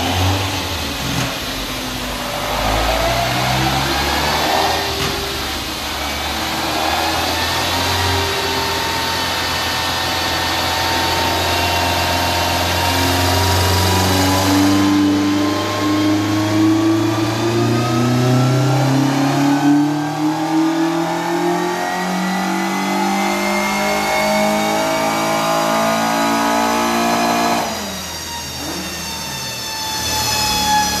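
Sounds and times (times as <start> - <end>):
car engine revving: 0.0 - 29.2.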